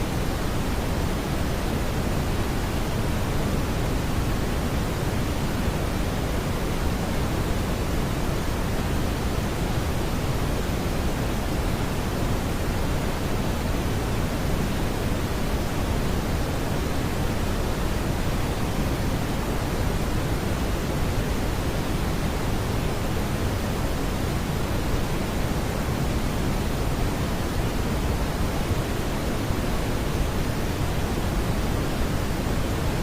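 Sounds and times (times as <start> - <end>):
brown noise hiss: 0.0 - 33.0.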